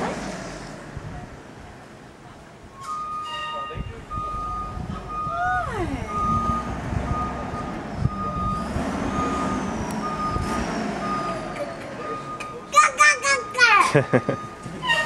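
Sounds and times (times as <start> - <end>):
truck back-up alarm beeping: 2.7 - 15.0.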